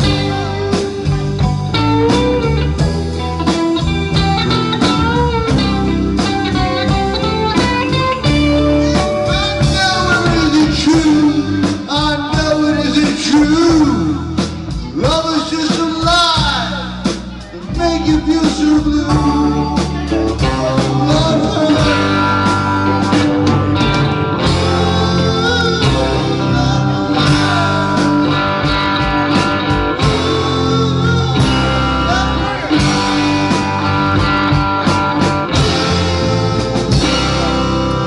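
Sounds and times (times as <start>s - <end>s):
band playing instrumental: 0.0s - 38.0s
bending lead guitar: 0.0s - 38.0s.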